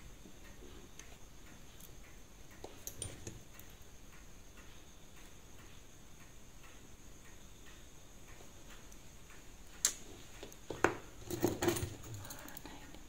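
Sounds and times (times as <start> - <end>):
watch movement ticking: 0.3 - 13.0.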